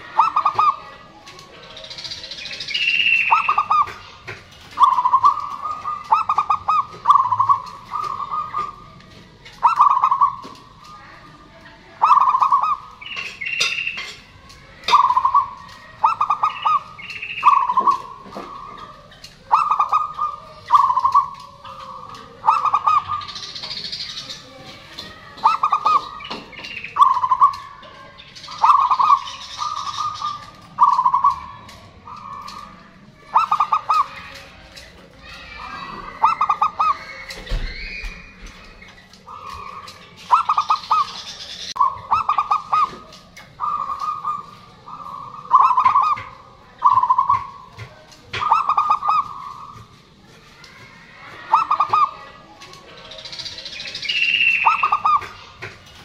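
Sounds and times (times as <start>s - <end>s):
dove cooing: 0.0s - 50.0s, 51.4s - 56.0s.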